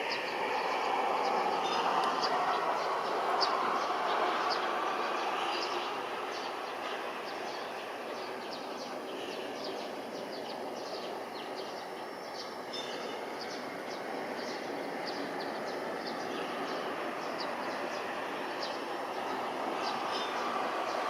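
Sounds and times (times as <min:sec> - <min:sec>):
distant jet engines roaring: 0:00.0 - 0:21.0
small birds chirping: 0:00.0 - 0:21.0.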